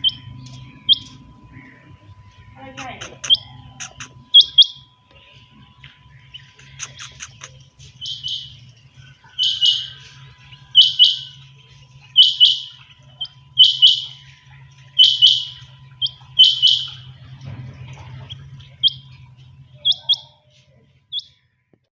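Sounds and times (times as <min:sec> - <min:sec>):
quails calling: 0:00.0 - 0:21.4
faint low hum: 0:00.0 - 0:21.9.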